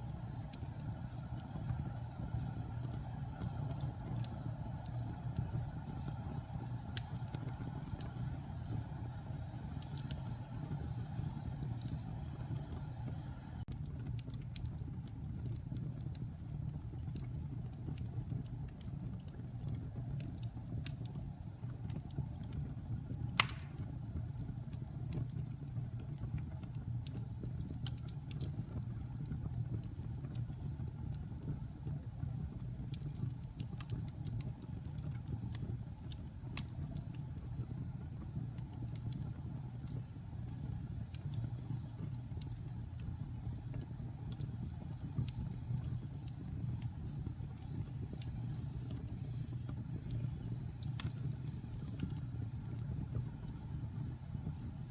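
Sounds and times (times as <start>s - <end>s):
fire crackling: 0.0s - 54.9s
fire rumbling: 0.0s - 54.9s.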